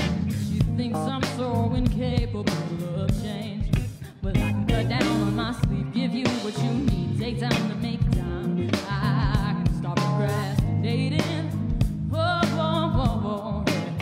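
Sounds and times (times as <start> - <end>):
bass guitar: 0.0 - 14.0
electric guitar: 0.0 - 14.0
person singing with vibrato: 0.0 - 14.0.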